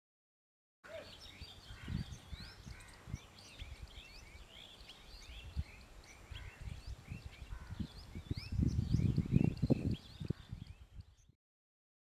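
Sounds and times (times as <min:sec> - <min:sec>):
birds chirping: 0:00.9 - 0:11.4.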